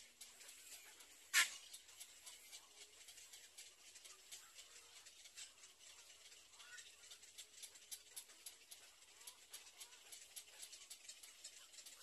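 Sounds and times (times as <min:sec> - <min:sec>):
soft irregular ticks: 0:00.0 - 0:12.0.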